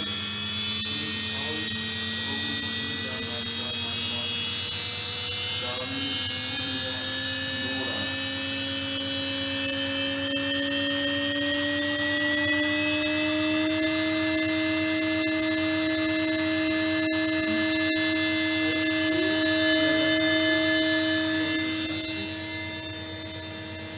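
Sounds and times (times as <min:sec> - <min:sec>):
motor spindle whine: 0:00.0 - 0:23.9.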